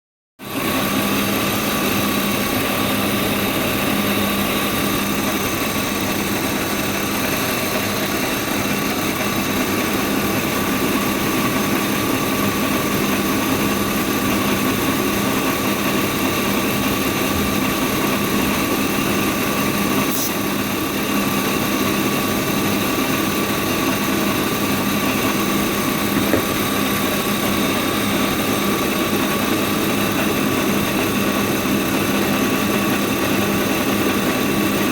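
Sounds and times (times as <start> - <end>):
car engine idling: 0.5 - 34.9.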